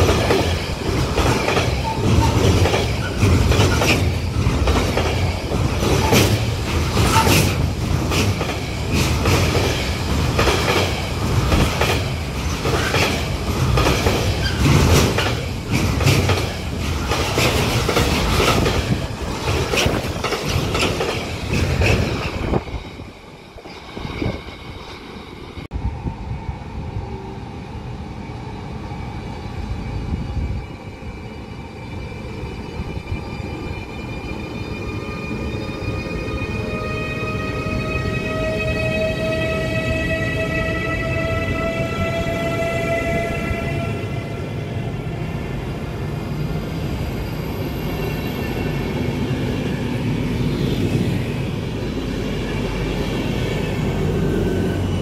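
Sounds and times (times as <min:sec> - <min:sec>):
electric locomotive hum: 0:00.0 - 0:55.0.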